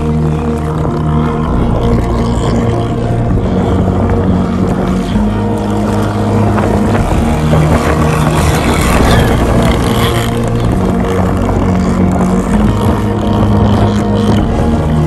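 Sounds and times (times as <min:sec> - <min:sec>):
model boat engine running: 0:00.0 - 0:15.0.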